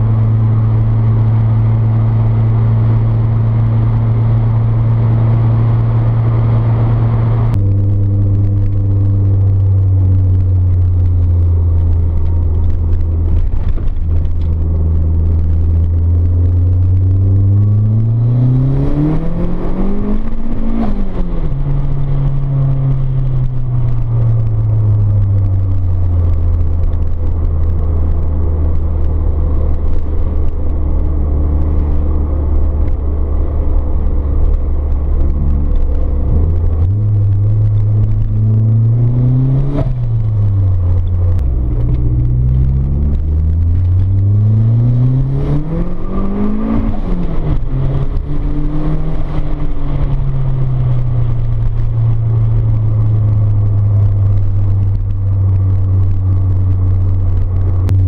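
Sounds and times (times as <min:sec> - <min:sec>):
car engine revving inside cabin: 0:00.0 - 0:58.0.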